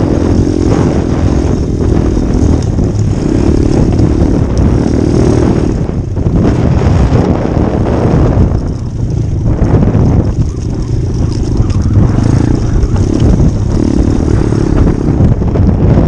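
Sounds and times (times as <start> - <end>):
small motorbike engine revving: 0.0 - 16.0.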